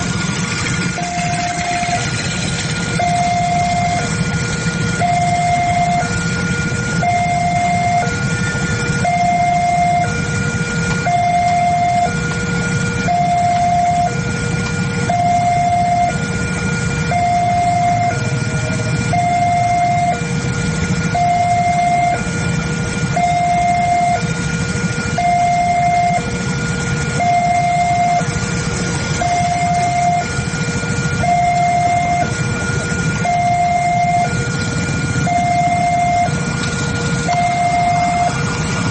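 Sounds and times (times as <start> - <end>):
level crossing two-tone alarm: 0.0 - 38.9
low rumble: 0.0 - 38.9.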